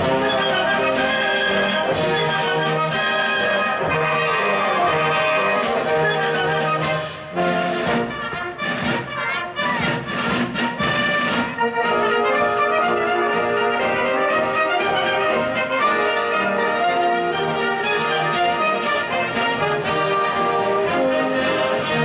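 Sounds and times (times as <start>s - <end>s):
brass band sustained chords: 0.0s - 22.0s.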